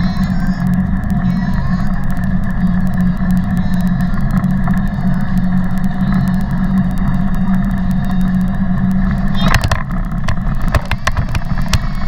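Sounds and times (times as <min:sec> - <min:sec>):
bike rolling on pavement: 0:00.0 - 0:12.0
fast light rattling clicks: 0:00.0 - 0:12.0.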